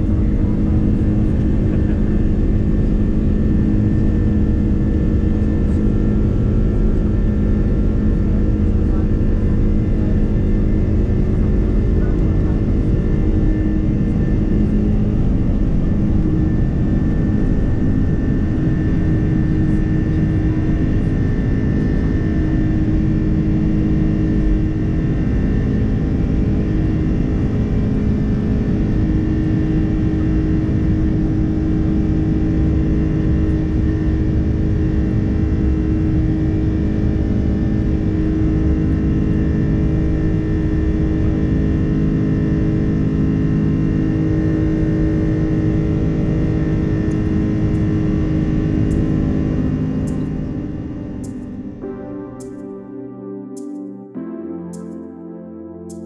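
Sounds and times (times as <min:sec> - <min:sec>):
jet engines rumbling in cabin: 0:00.0 - 0:51.8.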